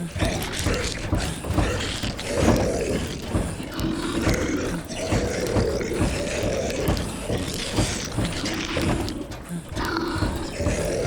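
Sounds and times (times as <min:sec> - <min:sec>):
bed frame rattling: 0:00.0 - 0:11.0
zombie moaning: 0:00.0 - 0:11.0.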